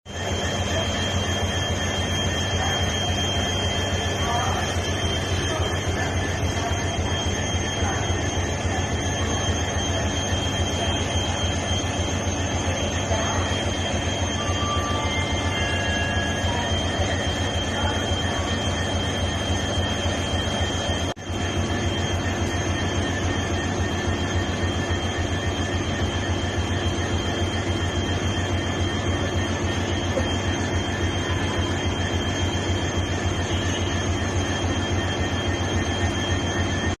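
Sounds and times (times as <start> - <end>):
electric train humming: 0.1 - 37.0
high-pitched whines: 0.1 - 37.0.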